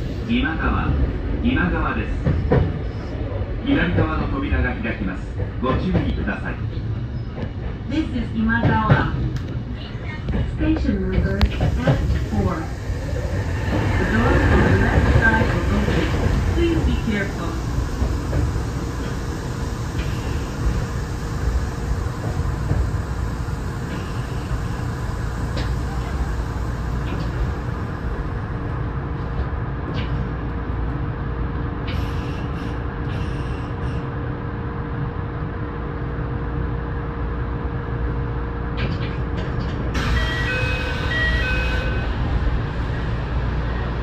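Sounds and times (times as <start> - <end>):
train low rumble and hum: 0.0 - 44.0.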